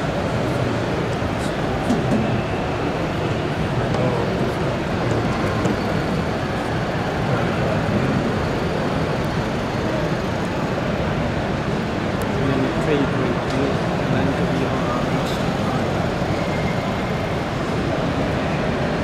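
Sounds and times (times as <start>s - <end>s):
crowd chatter: 0.0s - 19.0s.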